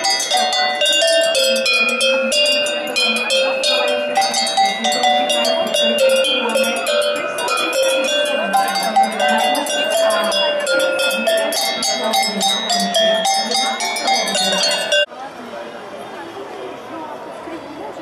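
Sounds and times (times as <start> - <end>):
cowbells playing a tune: 0.0 - 15.1.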